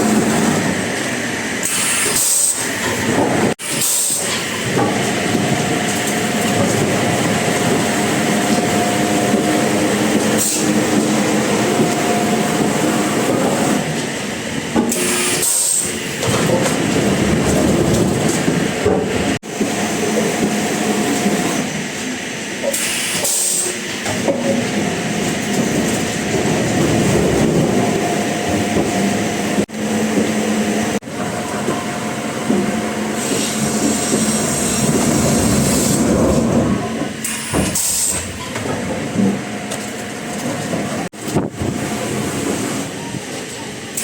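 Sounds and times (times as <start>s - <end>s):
sawmill machinery rumble and clatter: 0.0s - 44.0s.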